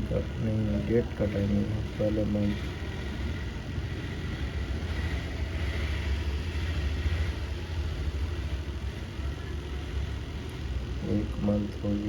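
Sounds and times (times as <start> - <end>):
low mechanical hum and rumble: 0.0 - 12.0.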